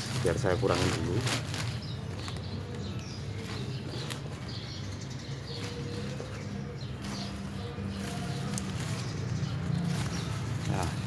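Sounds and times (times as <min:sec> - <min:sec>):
plastic sack crinkling: 0:00.0 - 0:11.0
potting mix scraping: 0:00.0 - 0:11.0.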